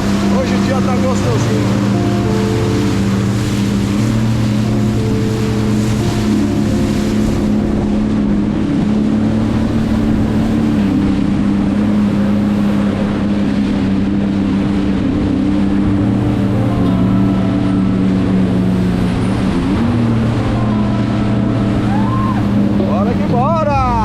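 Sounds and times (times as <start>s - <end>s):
jet ski engine running: 0.0s - 24.0s
water rushing: 0.0s - 24.0s.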